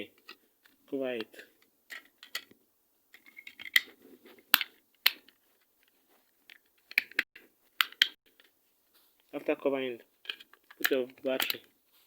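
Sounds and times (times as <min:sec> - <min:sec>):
plastic handling and scraping: 0:00.2 - 0:09.4, 0:10.0 - 0:12.0.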